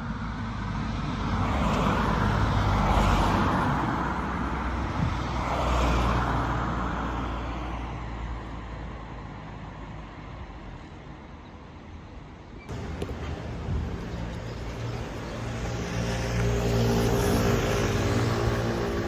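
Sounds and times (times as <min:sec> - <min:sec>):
cars passing by: 0:00.0 - 0:11.2, 0:12.7 - 0:19.0.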